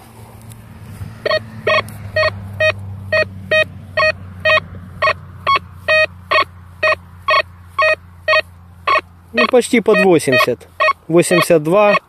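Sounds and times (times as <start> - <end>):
metal detector beeps: 1.2 - 12.0.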